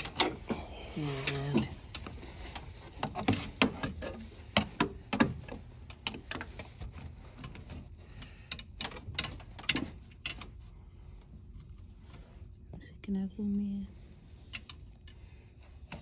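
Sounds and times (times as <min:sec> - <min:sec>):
light clicks of metal parts: 0:00.0 - 0:12.8, 0:14.2 - 0:16.0.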